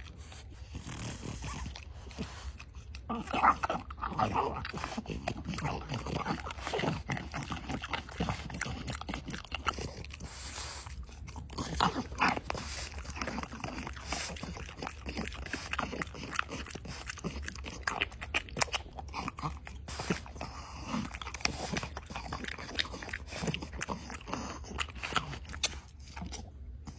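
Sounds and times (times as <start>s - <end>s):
dog chewing a treat: 0.0s - 26.9s.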